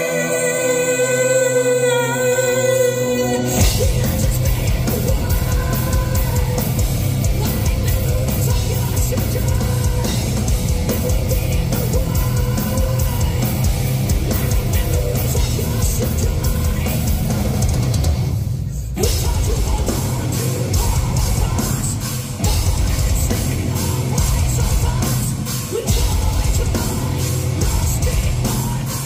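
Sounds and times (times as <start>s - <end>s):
person singing: 0.0s - 17.4s, 18.9s - 29.0s
heavy metal band playing live: 0.0s - 29.0s.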